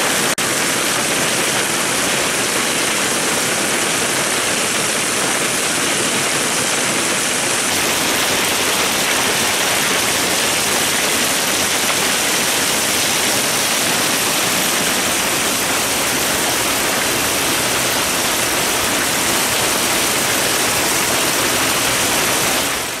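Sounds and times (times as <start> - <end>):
heavy rain and hail: 0.0 - 23.0.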